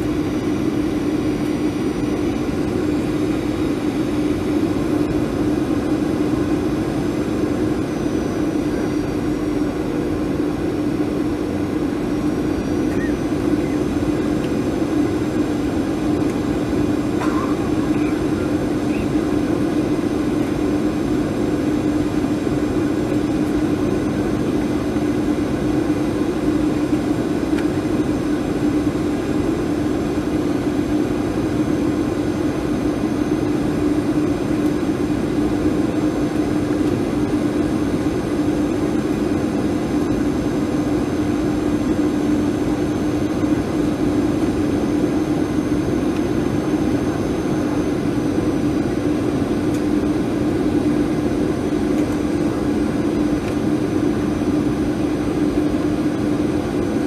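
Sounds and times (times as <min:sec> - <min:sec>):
droning hum of jet engines: 0:00.0 - 0:57.0.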